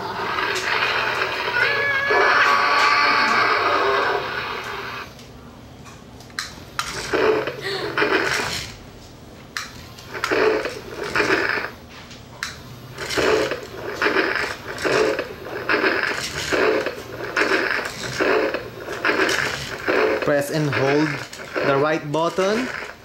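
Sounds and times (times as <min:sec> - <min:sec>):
toy gear motor churning: 0:00.0 - 0:05.1, 0:06.8 - 0:08.8, 0:10.1 - 0:11.7, 0:12.9 - 0:23.0.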